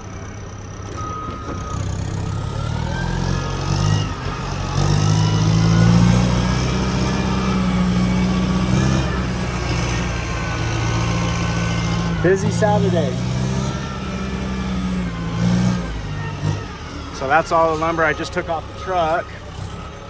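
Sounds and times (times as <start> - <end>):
heavy vehicle engine revving: 0.0 - 20.0
faint gliding whine: 1.0 - 20.0.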